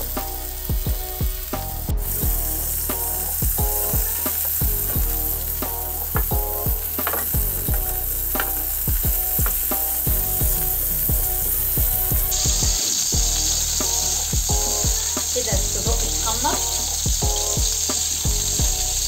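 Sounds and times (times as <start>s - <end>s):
background music with sharp beat: 0.0s - 19.0s
sausages sizzling in oil: 0.0s - 19.0s.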